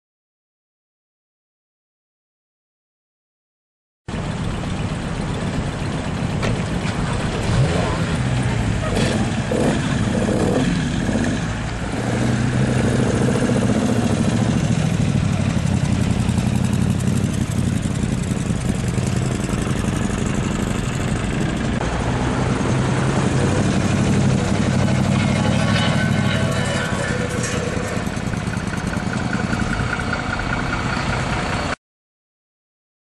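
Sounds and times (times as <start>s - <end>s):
engine idling: 4.1s - 31.8s.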